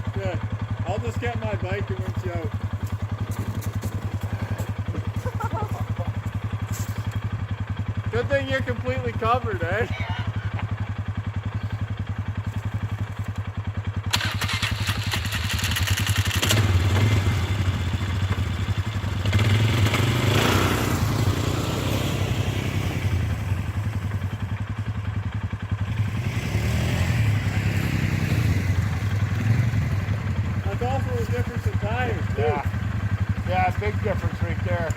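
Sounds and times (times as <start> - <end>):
atv engine revving: 0.0 - 34.9.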